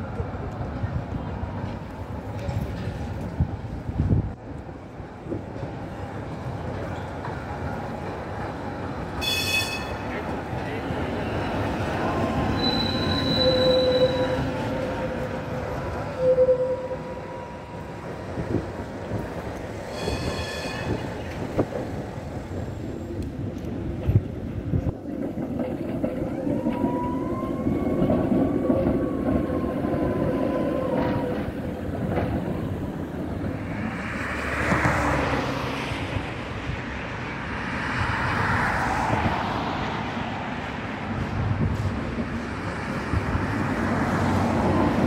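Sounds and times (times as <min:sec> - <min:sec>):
street traffic: 0:00.0 - 0:45.0
wheels rushing on rails: 0:00.0 - 0:45.0.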